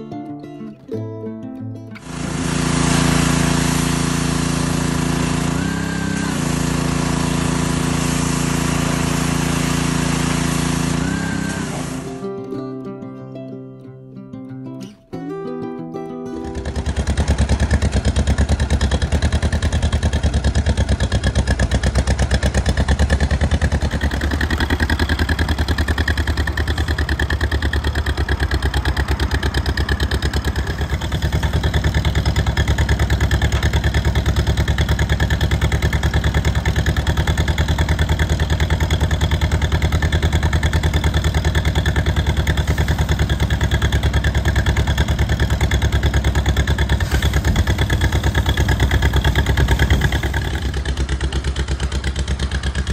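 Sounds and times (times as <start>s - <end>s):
tractor engine running: 2.0s - 12.9s, 16.3s - 52.9s.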